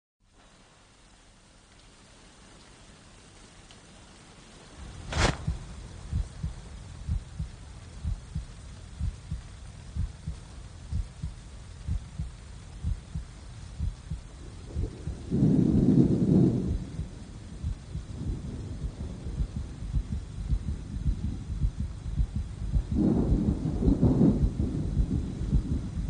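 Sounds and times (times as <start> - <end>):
loud low rumble: 4.9 - 26.0
heartbeat double thumps: 5.1 - 26.0.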